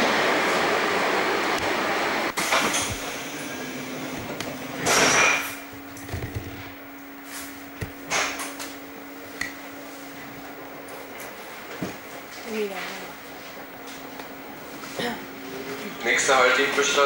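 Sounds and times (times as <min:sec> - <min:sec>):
steady low hum: 0:00.3 - 0:17.0.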